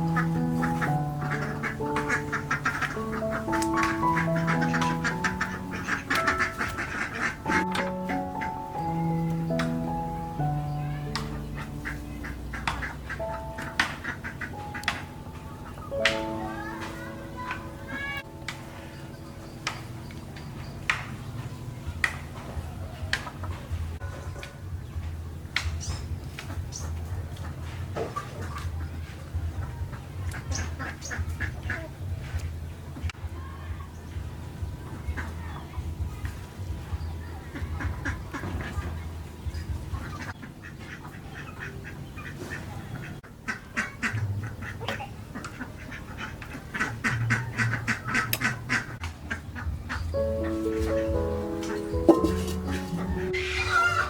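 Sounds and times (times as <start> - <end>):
ducks quacking: 0.0 - 24.2, 26.4 - 32.4, 37.2 - 54.0.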